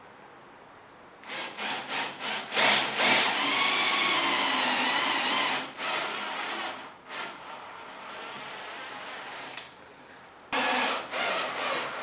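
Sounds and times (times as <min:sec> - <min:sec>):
cordless drill boring into wood: 0:01.2 - 0:09.6, 0:10.6 - 0:12.0.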